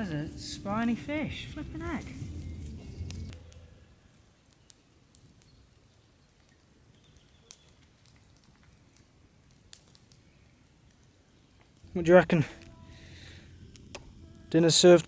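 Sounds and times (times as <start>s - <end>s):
crackling pops: 0.7s - 15.0s.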